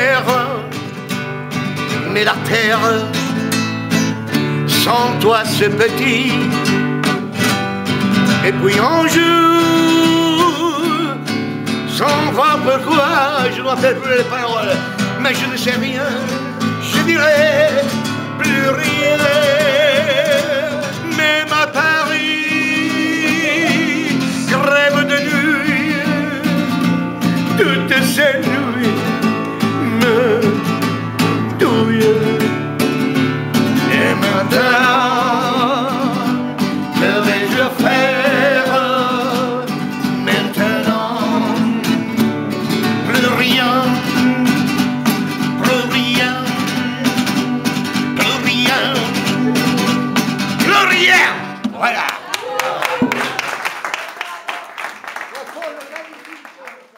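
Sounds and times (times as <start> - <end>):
man singing with vibrato: 0.0 - 51.8
nylon-string guitar strumming: 0.0 - 51.9.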